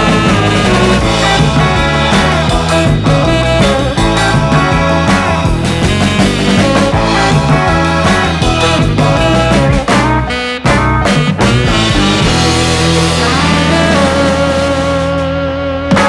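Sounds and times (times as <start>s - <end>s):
rock music with electric guitar: 0.0s - 16.0s.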